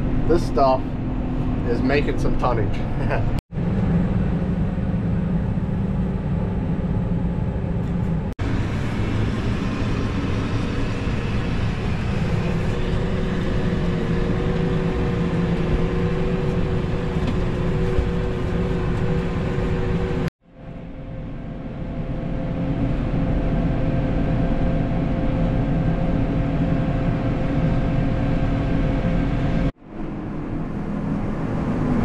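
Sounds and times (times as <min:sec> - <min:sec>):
tractor engine drone: 0:00.0 - 0:32.0.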